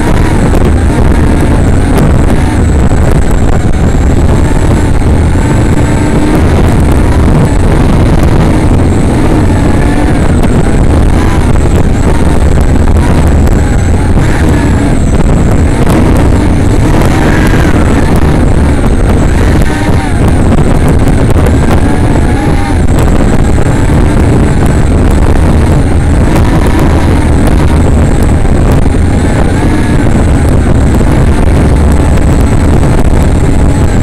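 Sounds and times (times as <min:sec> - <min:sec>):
loud rushing noise: 0:00.0 - 0:34.0
quadcopter motors whining: 0:00.0 - 0:34.0.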